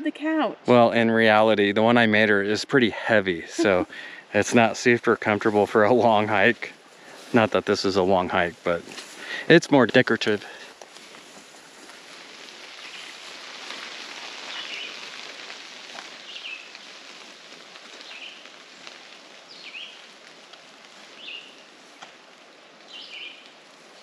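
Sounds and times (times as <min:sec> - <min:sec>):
hiss of leaves: 0:02.8 - 0:24.0
footsteps through wet grass: 0:03.6 - 0:24.0.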